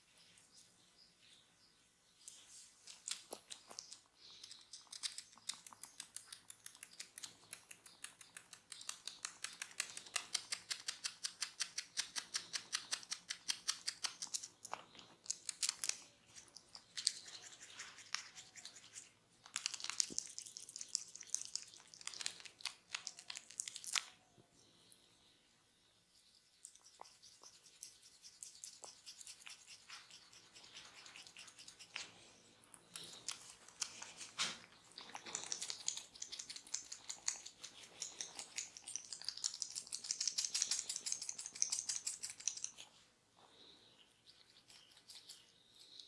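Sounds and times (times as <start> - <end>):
hands rubbing and patting skin: 2.2 - 24.2, 26.2 - 32.2, 33.0 - 43.0.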